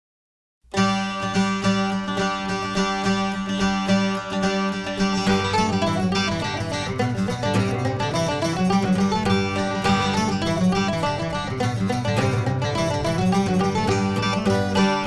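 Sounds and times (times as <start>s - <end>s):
plucked string music: 0.7s - 15.0s.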